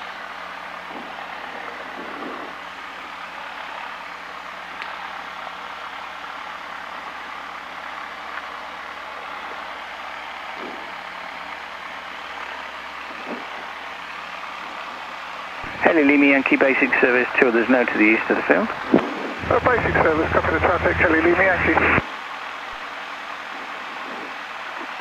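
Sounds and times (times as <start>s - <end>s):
light aircraft piston engine running: 0.0s - 22.0s.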